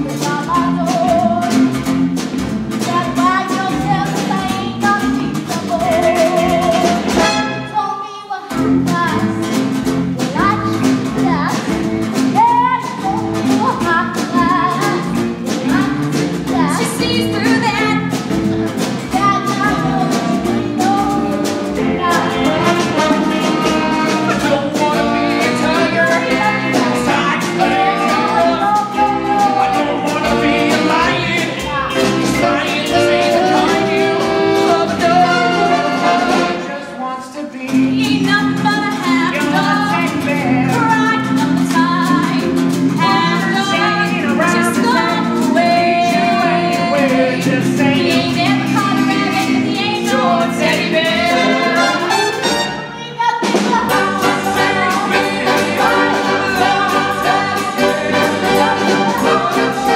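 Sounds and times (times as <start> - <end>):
singers with live band: 0.0 - 59.9.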